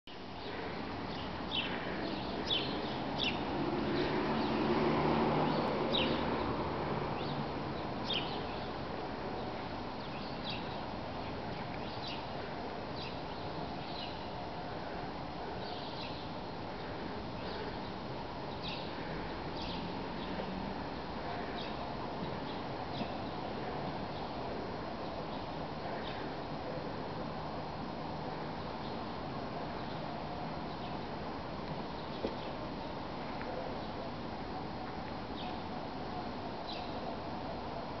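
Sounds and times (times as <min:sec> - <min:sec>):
outdoor background noise: 0:00.0 - 0:38.0
songbirds chirping: 0:00.1 - 0:38.0.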